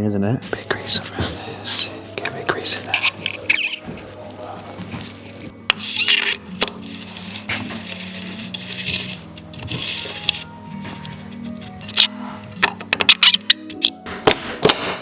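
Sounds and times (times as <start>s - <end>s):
light metal clicks and rubbing: 0.4s - 14.0s.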